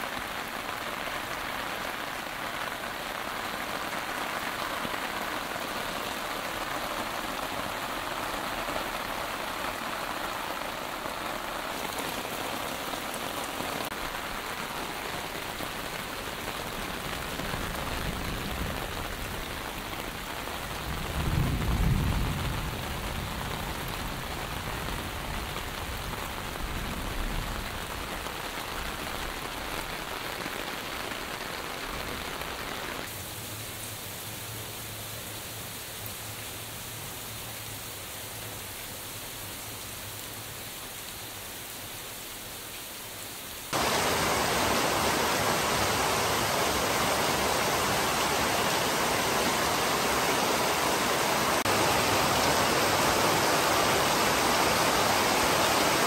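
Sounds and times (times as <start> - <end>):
heavy rain on ground and leaves: 0.0 - 56.0.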